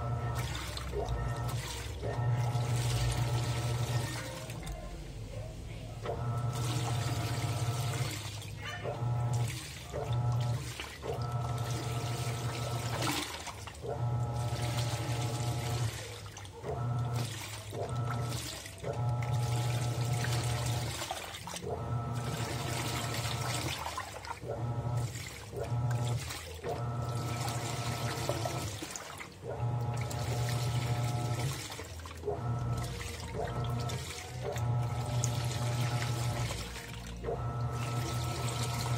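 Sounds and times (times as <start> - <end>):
washing machine motor humming: 0.0 - 38.9
water sloshing: 0.0 - 38.9.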